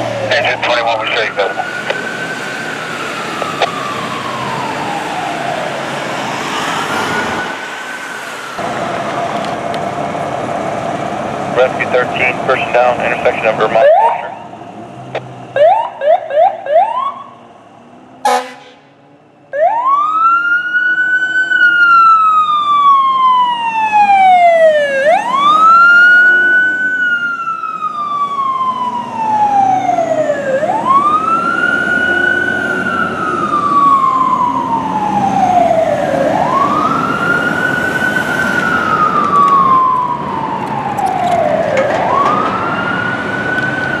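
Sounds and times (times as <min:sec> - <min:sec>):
fire engine siren wailing: 0:00.0 - 0:44.0.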